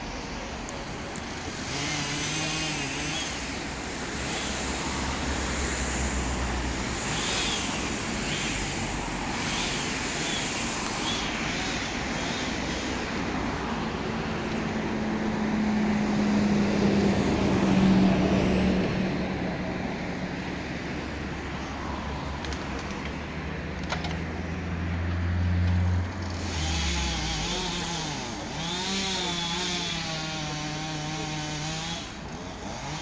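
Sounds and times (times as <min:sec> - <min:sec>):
diesel engine rumbling: 0:00.0 - 0:33.0.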